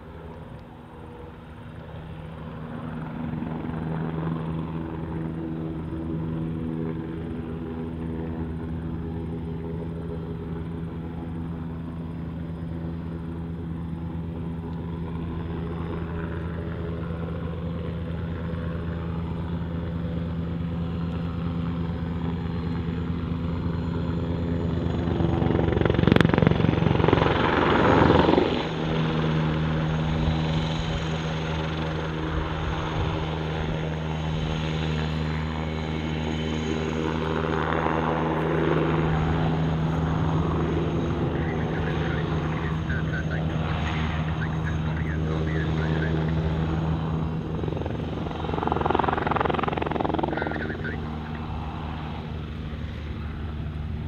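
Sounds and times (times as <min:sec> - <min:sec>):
helicopter beating hum: 0:00.0 - 0:54.0.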